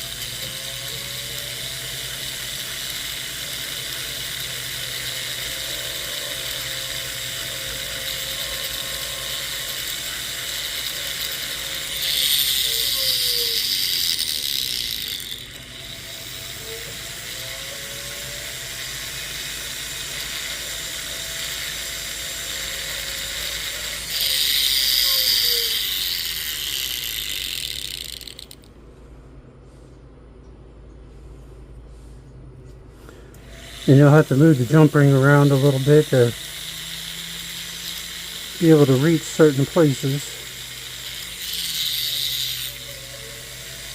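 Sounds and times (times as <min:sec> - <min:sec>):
polishing wheel grinding hiss: 0:00.0 - 0:28.7, 0:33.0 - 0:43.9
rotary tool motor whine: 0:00.0 - 0:28.7, 0:33.1 - 0:43.9.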